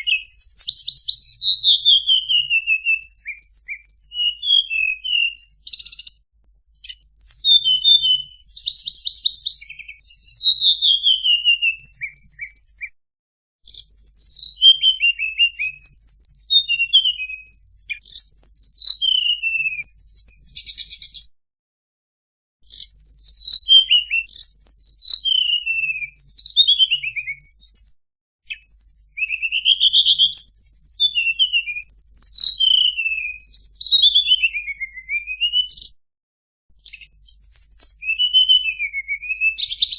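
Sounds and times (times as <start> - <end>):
songbird singing: 0.0 - 6.2, 6.8 - 12.9, 13.7 - 21.2, 22.6 - 27.9, 28.5 - 36.0, 36.8 - 39.9.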